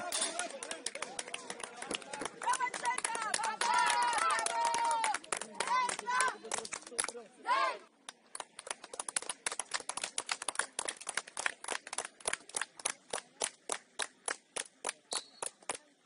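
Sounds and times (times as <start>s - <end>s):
hands clapping: 0.0s - 7.2s, 8.0s - 15.9s.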